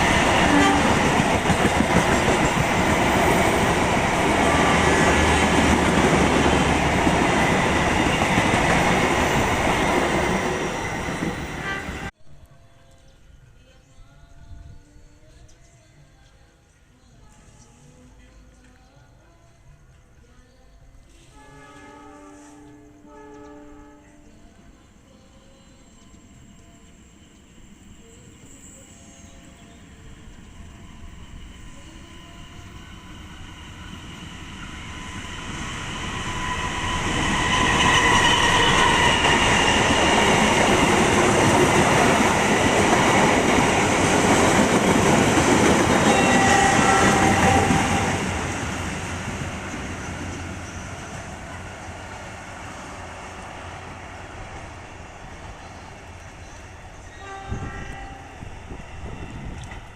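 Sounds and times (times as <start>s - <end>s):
passenger train passing: 0.0s - 12.2s, 21.2s - 59.9s.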